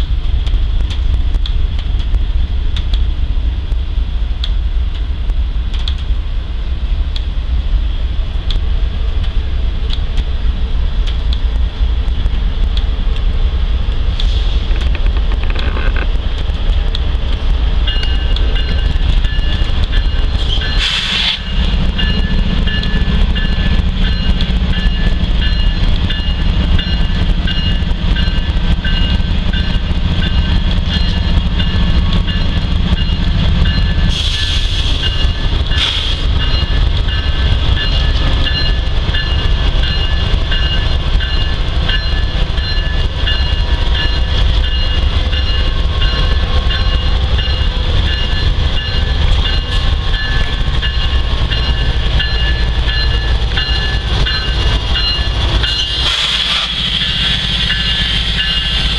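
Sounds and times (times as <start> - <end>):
freight train cars rumbling: 0.0 - 58.9.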